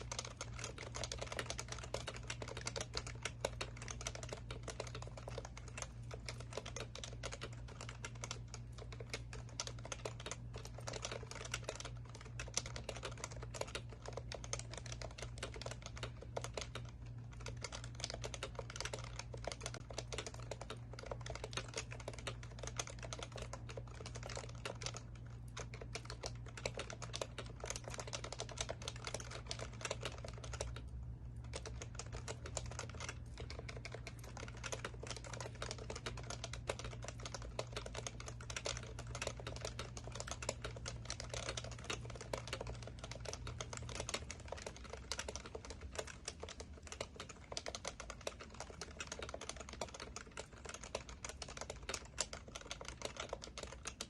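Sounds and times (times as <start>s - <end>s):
fast keyboard typing: 0.0s - 54.0s
steady low hum: 0.0s - 54.0s.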